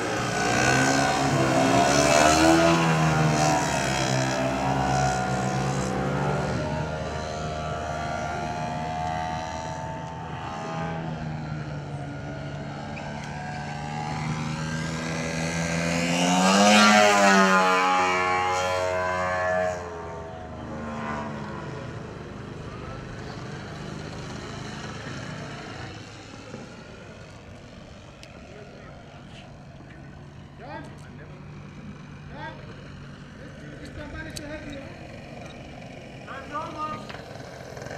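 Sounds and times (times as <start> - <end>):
model plane engine passing: 0.0 - 37.9.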